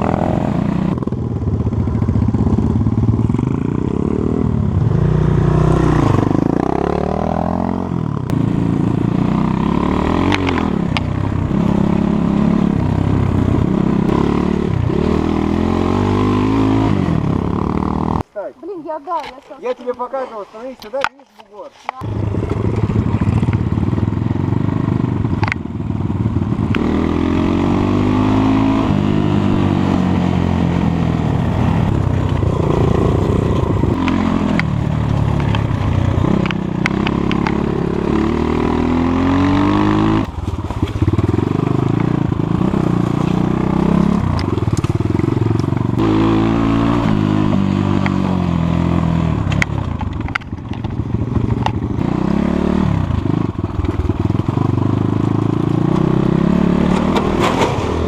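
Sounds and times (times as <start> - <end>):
motorcycle engine revving: 0.0 - 18.3, 21.6 - 58.0.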